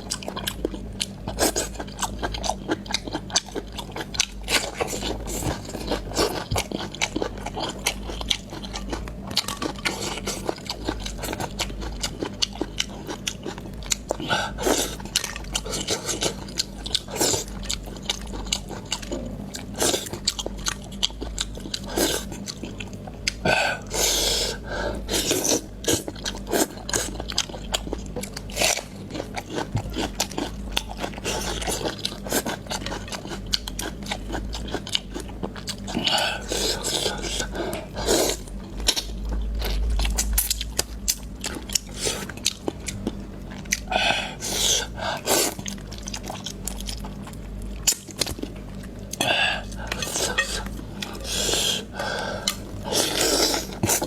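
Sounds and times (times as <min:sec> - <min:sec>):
close chewing and biting: 0:00.0 - 0:54.0
steady low hum: 0:00.0 - 0:54.0.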